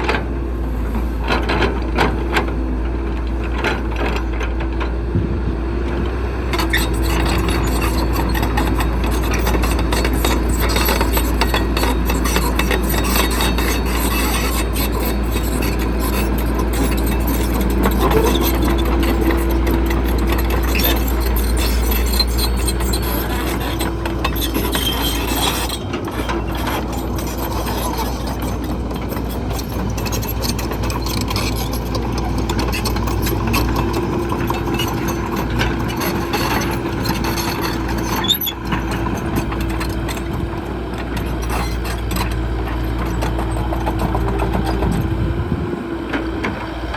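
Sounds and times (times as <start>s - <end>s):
diesel engine rumbling: 0.0s - 46.9s
mechanical clanking and grinding: 6.5s - 46.9s.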